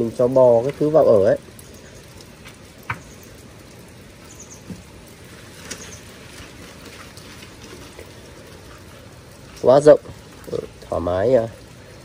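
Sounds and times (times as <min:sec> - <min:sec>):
rain on a metal roof: 0:00.0 - 0:12.0.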